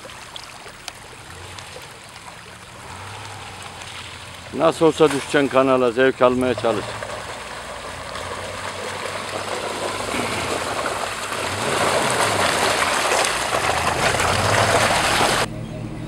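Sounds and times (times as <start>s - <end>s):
tyres churning mud: 0.0s - 15.5s
engine revving under load: 2.8s - 16.0s.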